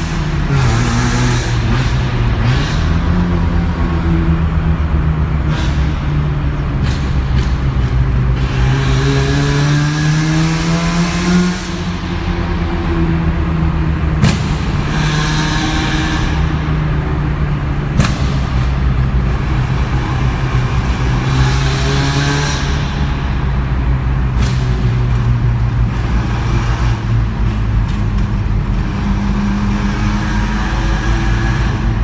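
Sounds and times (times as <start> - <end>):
exhaust afterfire bangs: 0.0 - 32.0
rotary engine revving: 0.0 - 32.0.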